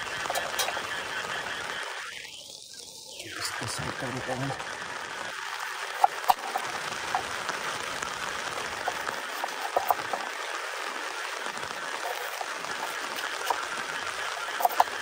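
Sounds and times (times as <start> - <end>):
heavy rain drumming on tent: 0.0 - 2.0, 3.1 - 15.0.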